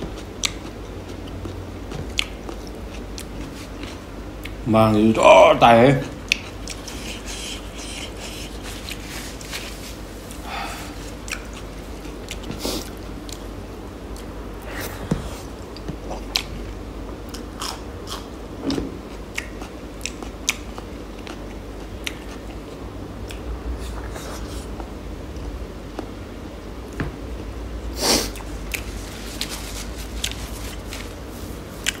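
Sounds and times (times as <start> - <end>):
person chewing food: 0.0 - 4.6, 6.0 - 26.1, 28.2 - 32.0.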